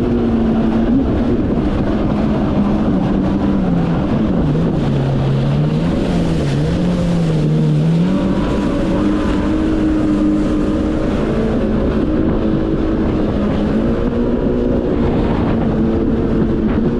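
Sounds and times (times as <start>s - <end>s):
personal watercraft engine running: 0.0s - 16.9s
steady rush of noise: 0.0s - 16.9s.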